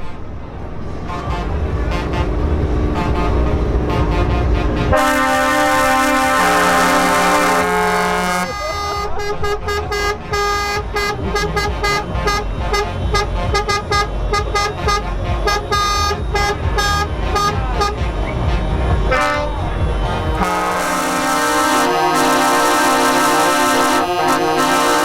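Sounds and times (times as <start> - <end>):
truck engines rumbling: 0.0 - 25.0
truck horns tooting: 0.0 - 25.0.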